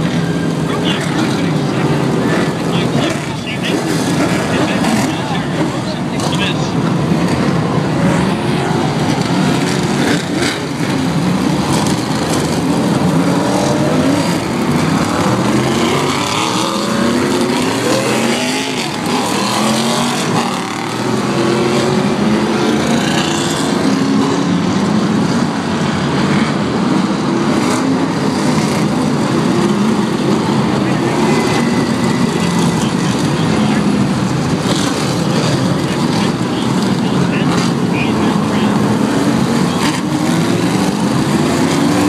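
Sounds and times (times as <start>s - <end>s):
race car engines passing: 0.0s - 42.0s.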